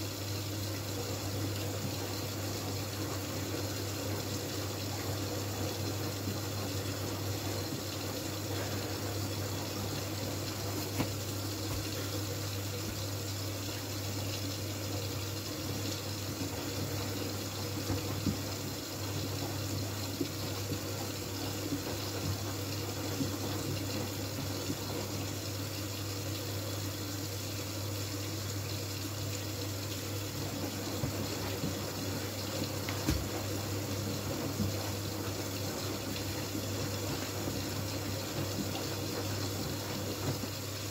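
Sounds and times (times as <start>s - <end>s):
washing machine low hum: 0.0s - 40.9s
water running into drum: 0.0s - 40.9s.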